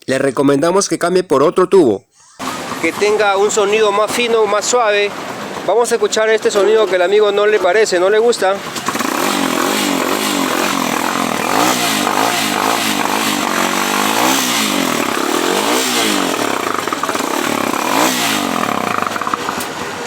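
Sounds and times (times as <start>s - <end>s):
motorcycle engine revving: 2.4s - 20.0s.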